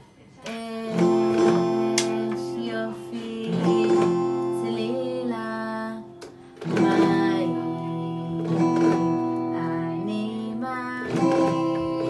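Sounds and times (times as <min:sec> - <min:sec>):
electronic strummed chords: 0:00.8 - 0:12.0.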